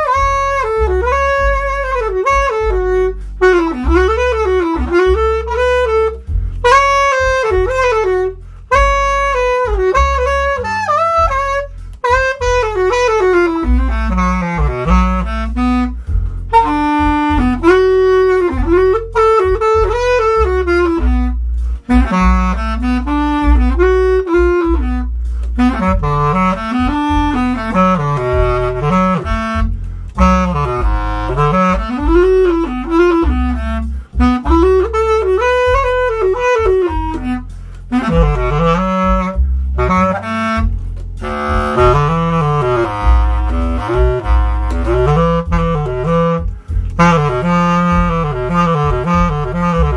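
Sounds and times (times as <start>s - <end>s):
bass clarinet playing blues: 0.0s - 49.9s
low bass accompaniment: 0.0s - 49.9s.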